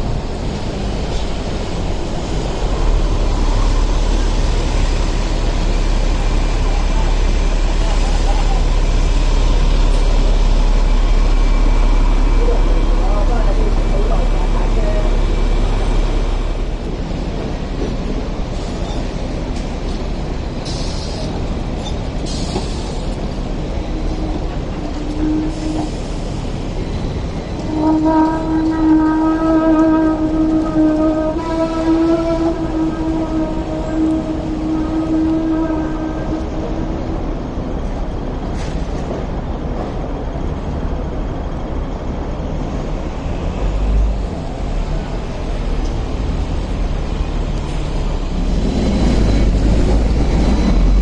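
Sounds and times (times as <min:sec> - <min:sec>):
city street traffic: 0:00.0 - 0:51.0
tram rumbling on rails: 0:00.0 - 0:51.0.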